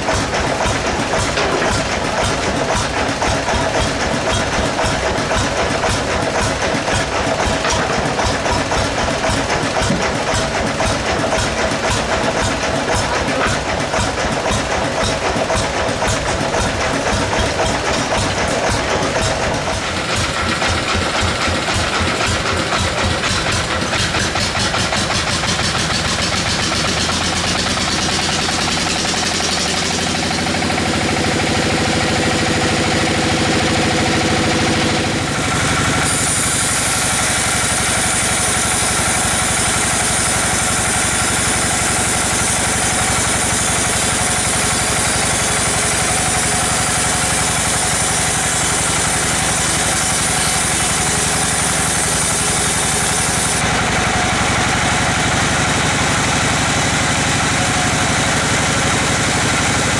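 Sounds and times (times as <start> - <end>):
sawmill machinery pulsing: 0.0 - 59.9.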